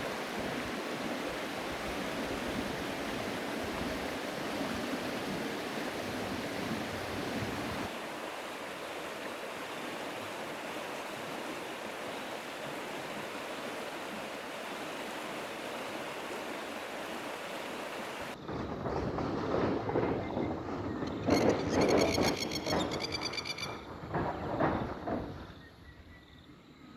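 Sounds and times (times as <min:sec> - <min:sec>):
rushing water: 0:00.0 - 0:18.4, 0:19.6 - 0:25.6.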